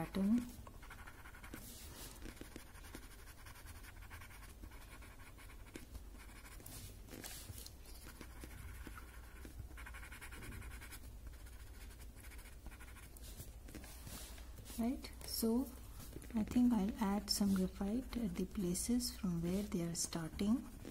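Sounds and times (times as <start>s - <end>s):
scratchy strokes on paper: 0.3s - 20.9s.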